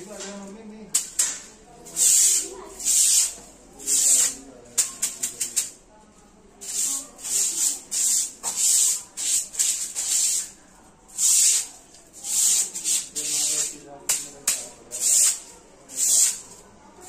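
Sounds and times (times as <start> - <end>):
broom swishing on marble floor: 1.0 - 5.8, 6.6 - 17.0.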